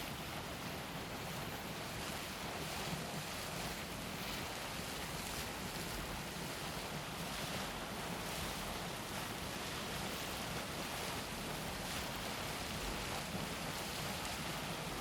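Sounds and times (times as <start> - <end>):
boiling water bubbling and hissing: 0.0 - 15.0.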